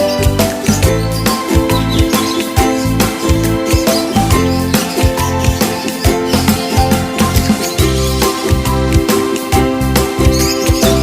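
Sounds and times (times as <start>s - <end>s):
background music with plucked guitar: 0.0s - 11.0s.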